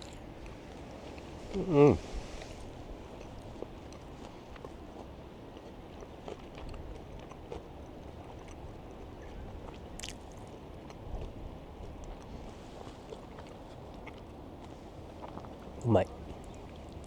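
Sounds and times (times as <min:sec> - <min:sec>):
chewing crunchy fried food: 0:00.0 - 0:17.0.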